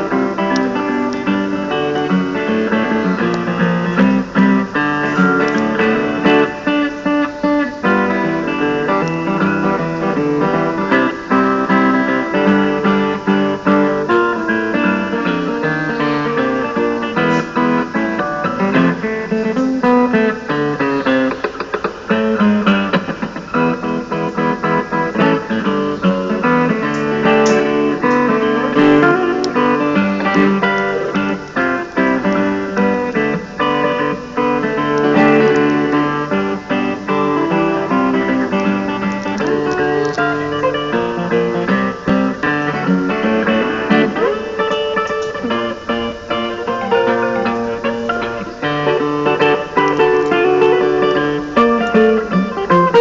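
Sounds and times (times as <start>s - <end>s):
acoustic guitar playing: 0.0s - 53.0s.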